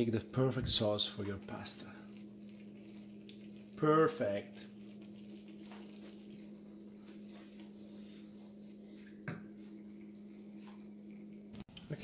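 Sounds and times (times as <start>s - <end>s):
sauce bubbling and popping: 1.1s - 11.7s.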